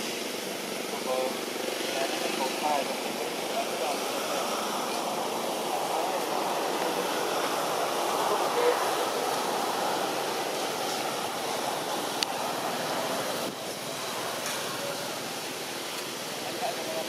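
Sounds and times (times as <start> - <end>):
outdoor rushing noise: 0.0 - 17.0.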